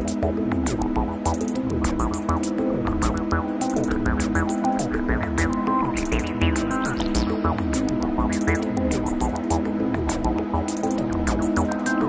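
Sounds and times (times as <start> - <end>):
hi-hat ticks: 0.0 - 12.0
low electronic beat: 0.0 - 12.0
synthesizer drone: 0.0 - 12.0.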